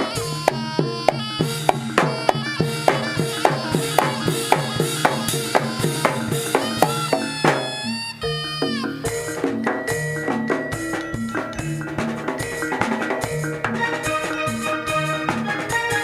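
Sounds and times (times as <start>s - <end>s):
reedy wind instrument: 0.0s - 16.0s
ringing percussion and drums: 0.0s - 16.0s.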